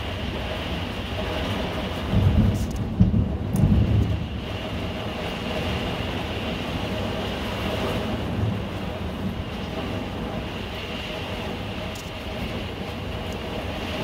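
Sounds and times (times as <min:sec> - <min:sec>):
wind and heavy rain roaring: 0:00.0 - 0:14.0.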